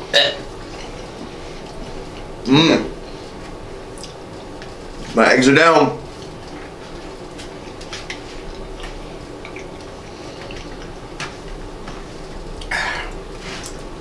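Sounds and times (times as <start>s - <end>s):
wet eating sounds: 0.6s - 5.0s, 6.0s - 14.0s.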